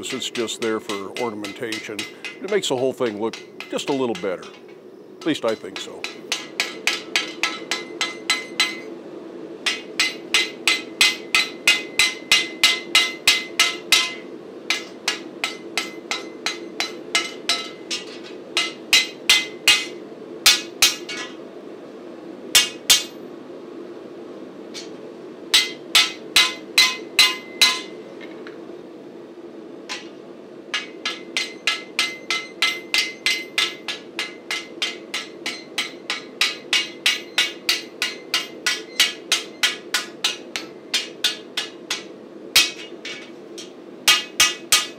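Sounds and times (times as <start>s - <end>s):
hammer striking steel on anvil: 0.0s - 8.9s, 9.6s - 21.4s, 22.6s - 23.2s, 24.8s - 28.0s, 29.9s - 44.9s.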